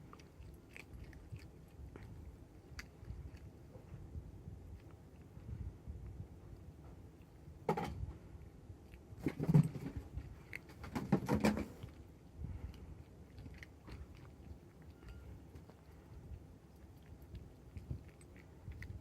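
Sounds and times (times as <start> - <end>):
kitten chewing and crunching: 0.0 - 19.0.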